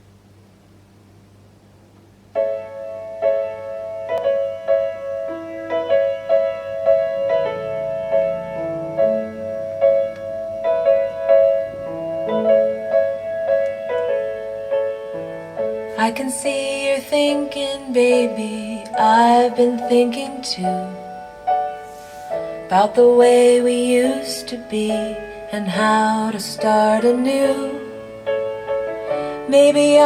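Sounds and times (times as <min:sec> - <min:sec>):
faint low hum: 0:00.0 - 0:30.0
piano through loudspeakers: 0:02.3 - 0:30.0.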